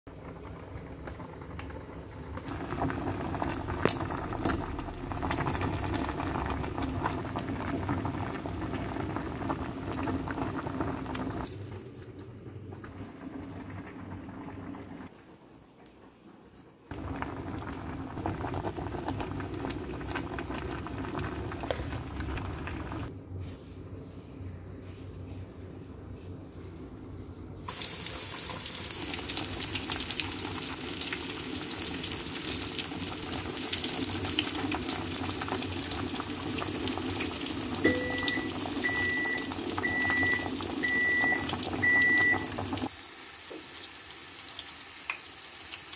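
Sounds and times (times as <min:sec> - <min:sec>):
water boiling in pot: 0:00.1 - 0:23.1, 0:27.7 - 0:45.9.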